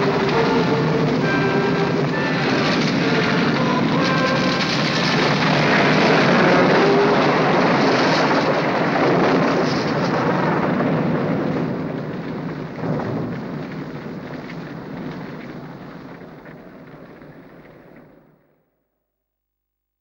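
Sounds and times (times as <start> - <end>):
bonfire burning with rushing noise: 0.0 - 18.5.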